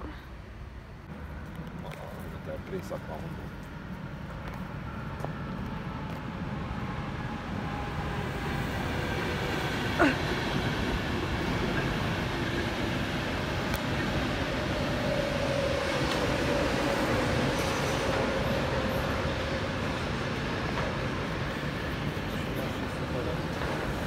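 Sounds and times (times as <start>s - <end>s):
steady hum of approaching train: 0.0s - 24.0s
train wheels rumbling on rail: 1.0s - 24.0s.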